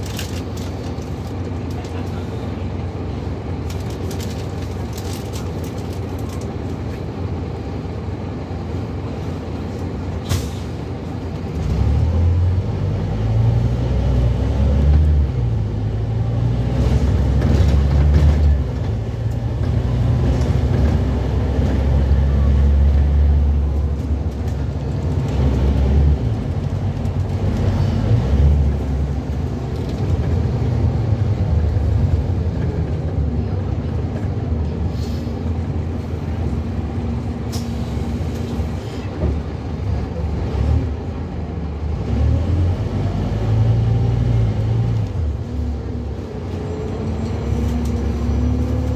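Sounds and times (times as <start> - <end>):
bus diesel engine drone: 0.0 - 48.9
road noise: 0.0 - 48.9.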